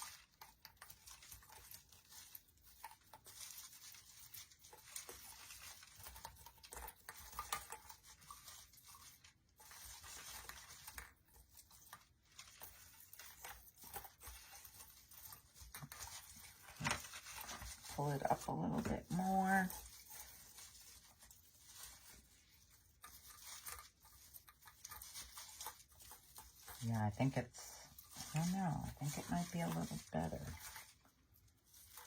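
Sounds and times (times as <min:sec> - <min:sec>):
artificial branches rustling: 0:00.0 - 0:32.0.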